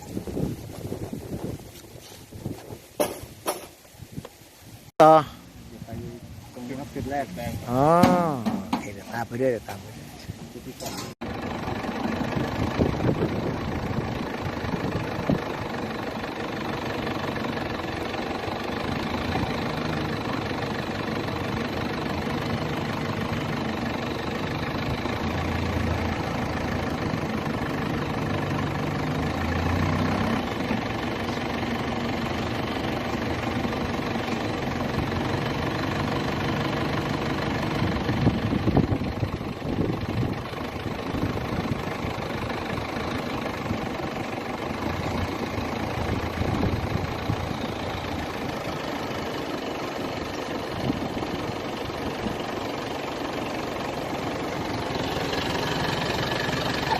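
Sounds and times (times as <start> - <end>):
vehicle engine running: 0.0 - 3.6, 5.0 - 56.9.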